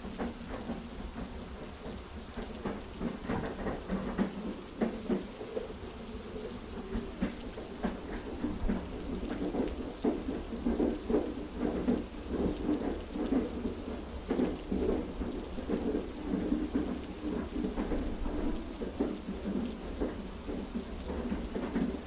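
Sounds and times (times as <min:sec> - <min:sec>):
heavy rain falling: 0:00.0 - 0:22.0
train carriage rumbling on rails: 0:00.0 - 0:22.0
wheels knocking on track: 0:00.0 - 0:22.0.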